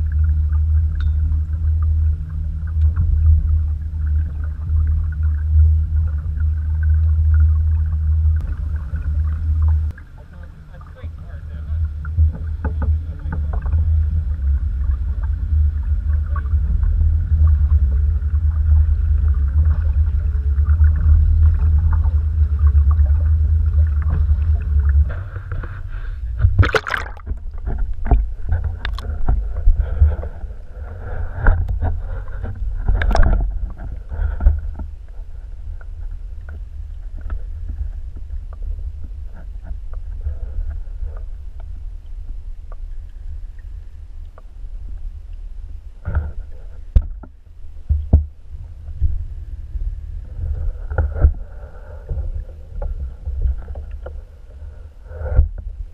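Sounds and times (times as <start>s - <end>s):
low rumbling noise: 0.0s - 55.9s.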